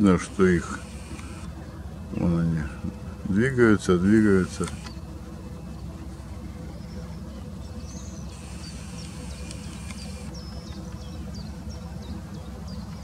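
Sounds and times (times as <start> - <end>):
small birds chirping: 0.6 - 3.0, 4.4 - 13.0.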